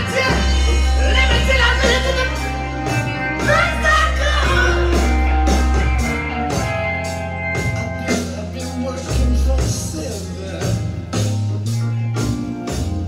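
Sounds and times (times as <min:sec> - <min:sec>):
song from vinyl record: 0:00.0 - 0:13.0.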